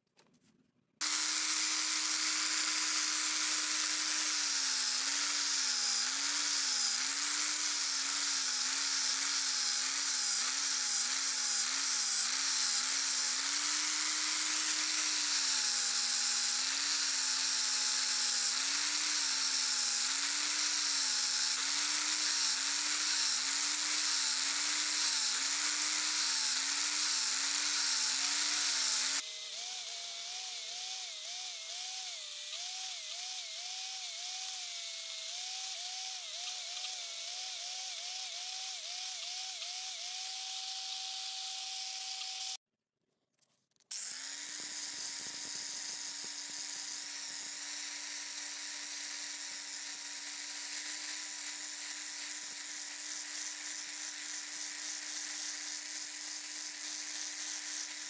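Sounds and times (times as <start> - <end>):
power tool grinding: 1.0 - 42.6, 43.9 - 58.0.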